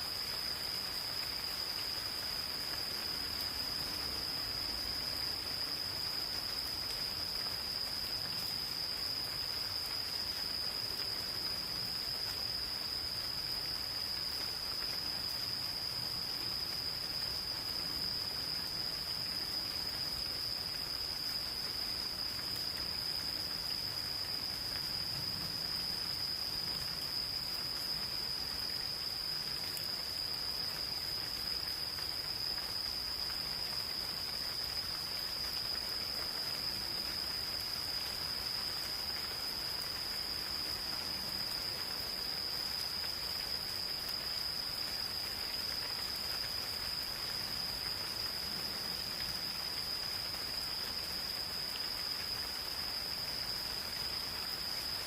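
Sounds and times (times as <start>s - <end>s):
gentle rain falling: 0.0s - 55.0s
insects trilling: 0.0s - 55.0s.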